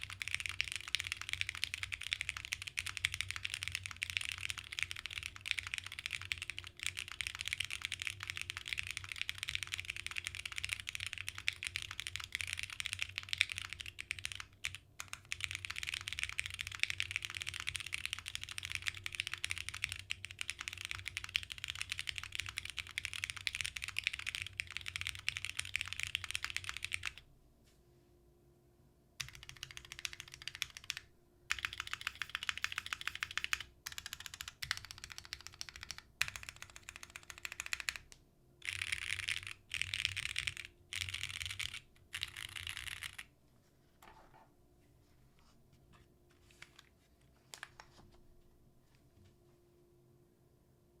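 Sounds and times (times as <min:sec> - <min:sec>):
fast typing on mechanical keyboard: 0:00.0 - 0:27.2, 0:29.2 - 0:43.3.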